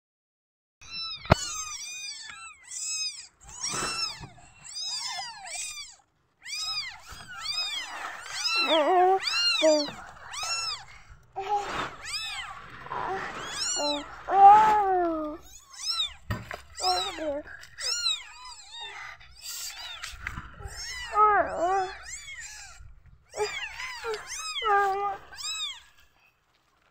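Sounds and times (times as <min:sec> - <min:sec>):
kittens mewing: 0:00.8 - 0:26.2.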